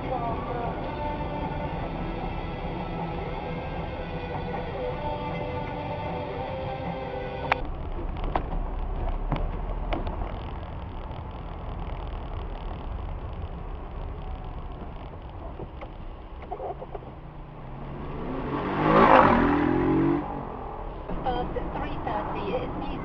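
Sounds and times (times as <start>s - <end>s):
vehicle engine rising in pitch: 0.0s - 15.5s, 16.1s - 23.0s
car road and engine rumble: 0.0s - 23.0s.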